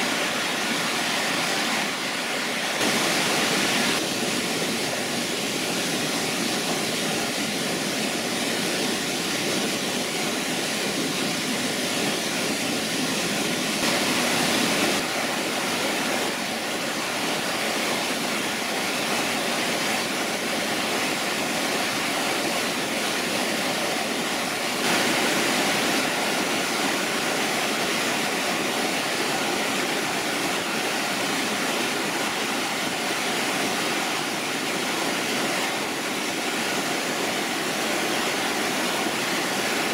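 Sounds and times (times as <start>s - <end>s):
water rushing down waterfall: 0.0s - 39.9s.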